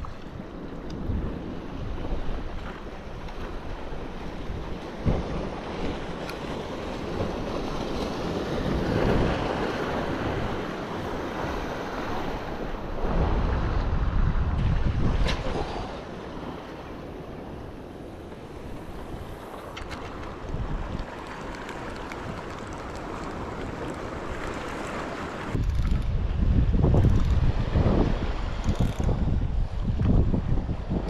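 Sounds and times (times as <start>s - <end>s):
sea surf: 0.0s - 31.0s
wind buffeting microphone: 0.0s - 31.0s.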